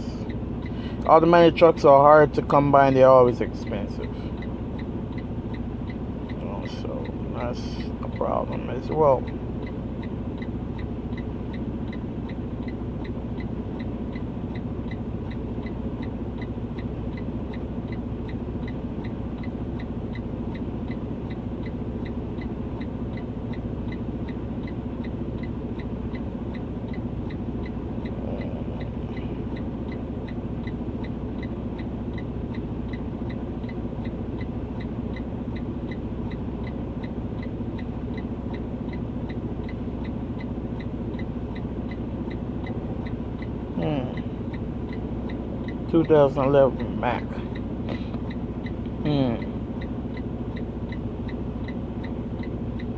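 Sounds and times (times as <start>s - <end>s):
rapid even ticking: 0.0s - 52.9s
steady low hum: 0.0s - 52.9s.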